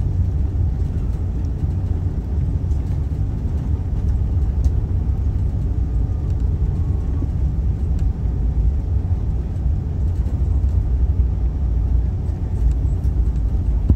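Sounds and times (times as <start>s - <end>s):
low rumble in aircraft cabin: 0.0s - 13.9s.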